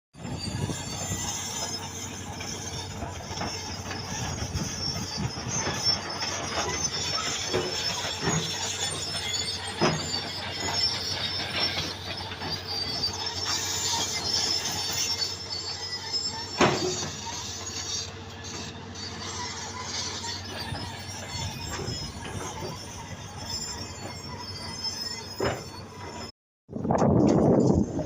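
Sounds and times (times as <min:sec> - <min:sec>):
excavator engine and hydraulic hum: 0:00.2 - 0:26.3
metallic squeals and clanks: 0:00.2 - 0:26.3, 0:27.0 - 0:28.0.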